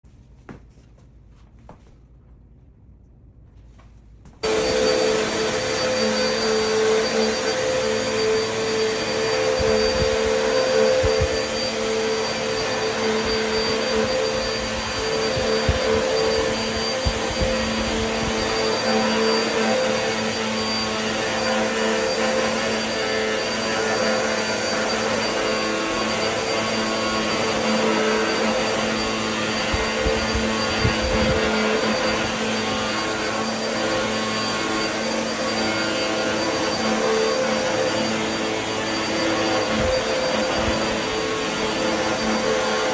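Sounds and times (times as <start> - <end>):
vacuum cleaner running: 4.4 - 42.9
vacuum knocking on floor: 4.4 - 42.9.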